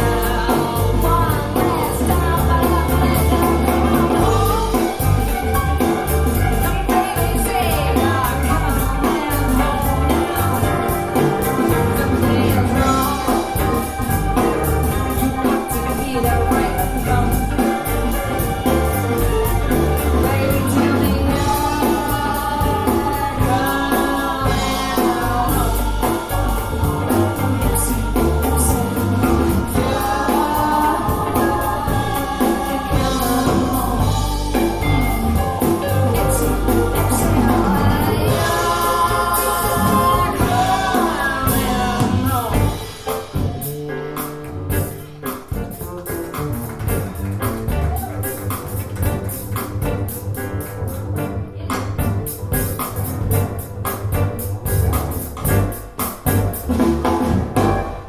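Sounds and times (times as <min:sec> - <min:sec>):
song with vocals and band: 0:00.0 - 0:58.0.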